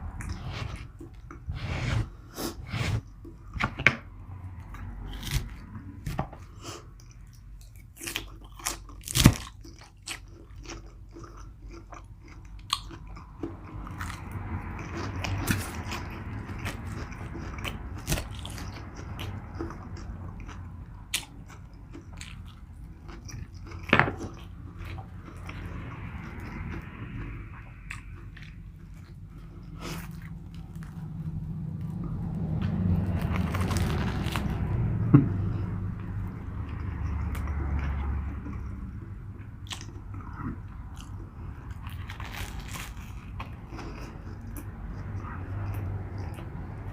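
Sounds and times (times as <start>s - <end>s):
close chewing and crunching: 0.0s - 46.9s.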